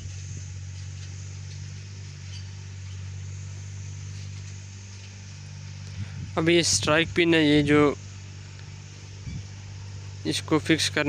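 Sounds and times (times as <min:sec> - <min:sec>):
faint high hiss: 0:00.0 - 0:11.0
low background hum: 0:00.0 - 0:11.0.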